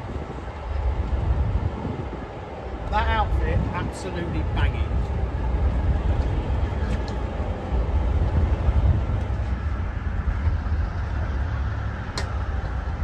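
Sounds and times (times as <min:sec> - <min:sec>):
diesel train engine rumbling: 0:00.0 - 0:13.0.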